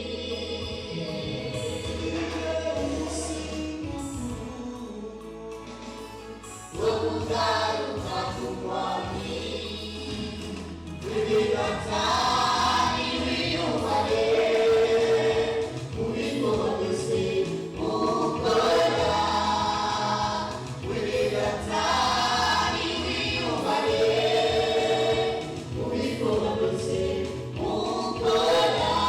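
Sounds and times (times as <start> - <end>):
choir singing gospel song: 0.0 - 29.0.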